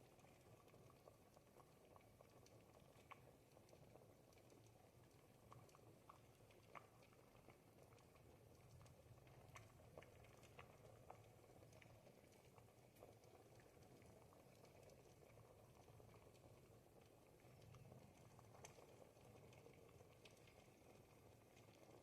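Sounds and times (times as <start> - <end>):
thick soup bubbling: 0.0 - 22.0.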